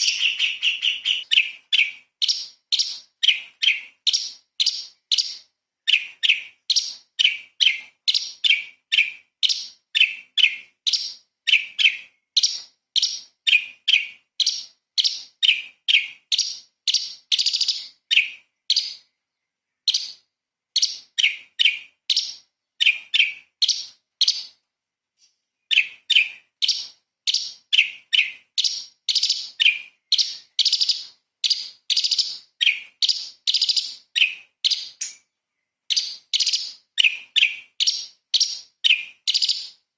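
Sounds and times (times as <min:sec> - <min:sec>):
bird singing sharp high calls: 0:00.0 - 0:24.6, 0:25.2 - 0:39.8.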